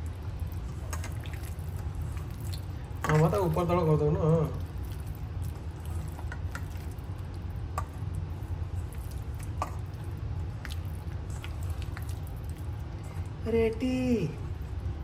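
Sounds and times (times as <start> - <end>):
steady low hum: 0.0 - 15.0
wet squishing of marinade: 0.0 - 15.0.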